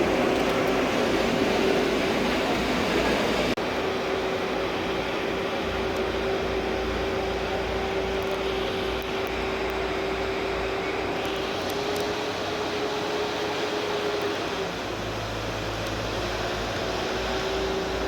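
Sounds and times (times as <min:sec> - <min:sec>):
road roller engine running: 0:00.0 - 0:18.0
steady whine: 0:00.0 - 0:18.0.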